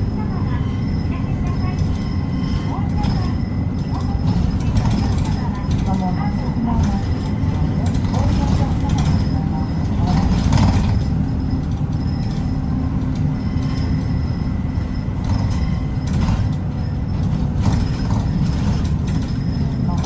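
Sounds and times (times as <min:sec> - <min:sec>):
bus engine and road rumble: 0:00.0 - 0:20.0
bus fittings rattling: 0:00.0 - 0:20.0.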